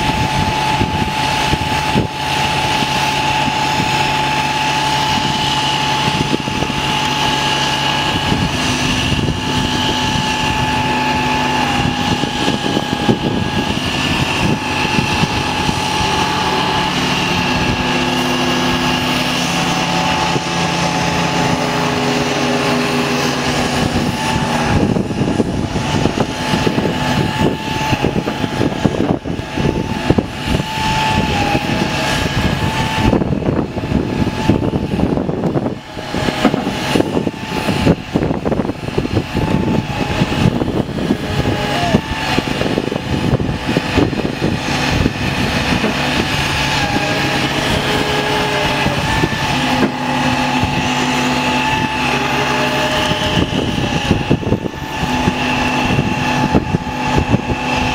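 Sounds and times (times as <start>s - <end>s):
diesel engine running: 0.0s - 57.9s
hydraulic whine: 0.0s - 57.9s
rough uneven noise: 0.0s - 57.9s.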